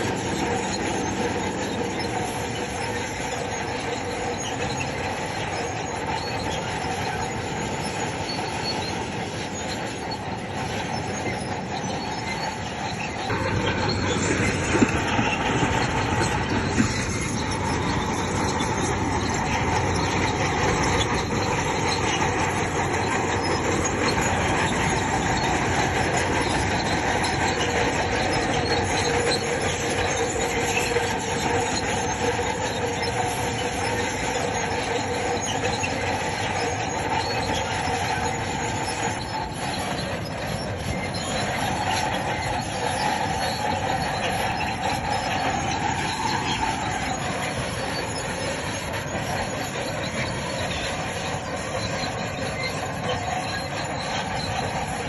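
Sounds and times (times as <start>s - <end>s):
bulldozer engine running: 0.0s - 55.0s
steel tracks squealing and clanking: 0.0s - 55.0s.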